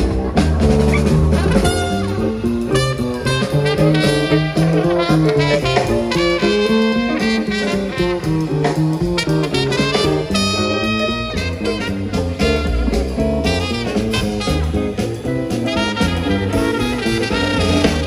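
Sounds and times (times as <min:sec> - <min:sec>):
horns playing jazz melody: 0:00.0 - 0:18.0
stepping bass line: 0:00.0 - 0:18.0.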